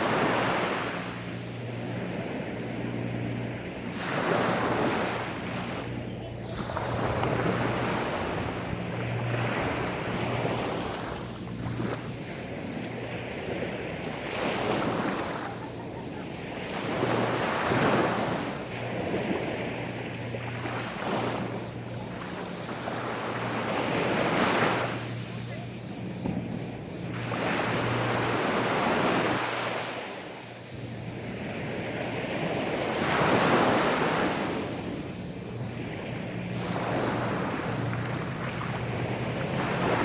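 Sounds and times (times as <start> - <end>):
sea waves washing onto beach: 0.0 - 40.0
steady low hum: 0.0 - 40.0.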